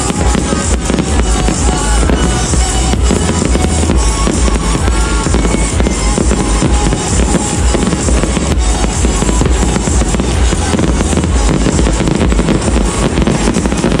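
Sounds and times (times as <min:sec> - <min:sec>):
fireworks bangs and crackles: 0:00.0 - 0:14.0
loud music with drums: 0:00.0 - 0:14.0.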